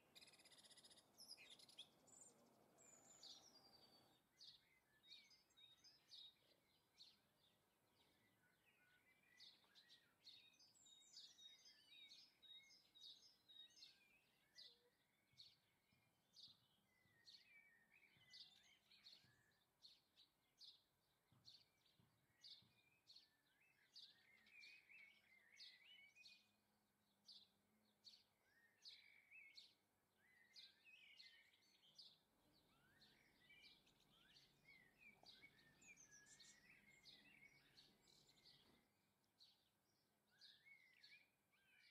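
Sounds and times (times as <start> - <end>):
birds chirping: 0.0 - 41.9
birds twittering and trilling: 0.0 - 41.9.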